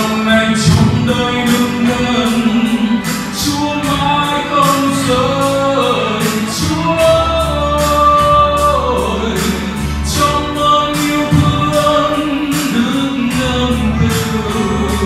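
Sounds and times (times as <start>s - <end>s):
man singing into a microphone: 0.0s - 15.0s
recorded backing track: 0.0s - 15.0s.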